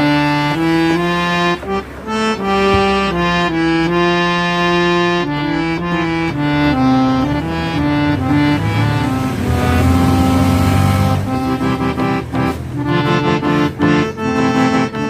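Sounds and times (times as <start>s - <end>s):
harmonium notes and chords: 0.0s - 15.0s.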